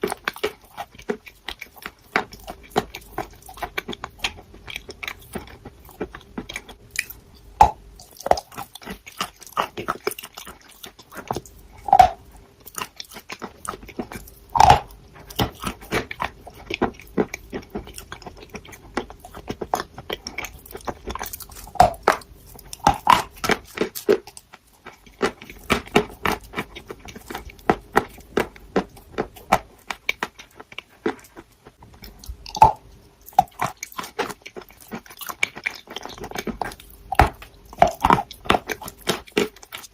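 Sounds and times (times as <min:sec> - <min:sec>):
person chewing crunchy chalk: 0:00.0 - 0:39.9.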